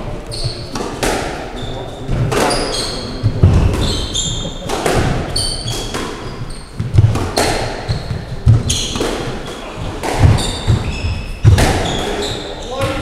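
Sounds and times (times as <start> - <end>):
squash ball hitting rackets and walls: 0.0 - 13.0
shoes squeaking on wooden floor: 0.1 - 13.0.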